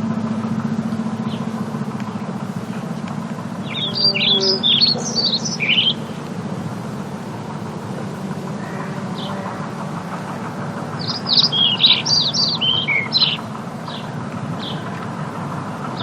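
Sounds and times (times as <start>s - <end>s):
low background noise: 0.0s - 16.0s
small birds chirping: 1.2s - 16.0s.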